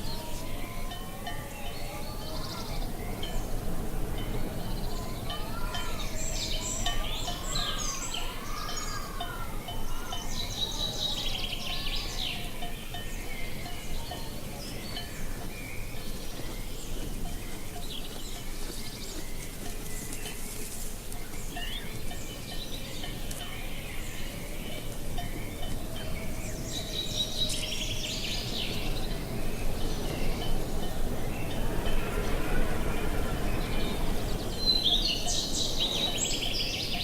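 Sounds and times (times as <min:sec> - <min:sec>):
birds chirping and calling: 0:00.0 - 0:37.0.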